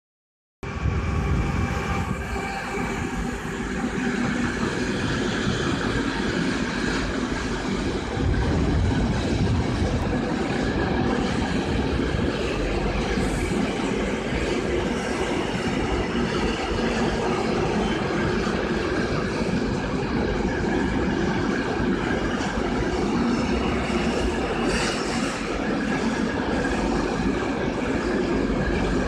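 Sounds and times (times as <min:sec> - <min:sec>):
freight train wheels rumbling on rail: 0:00.6 - 0:29.0.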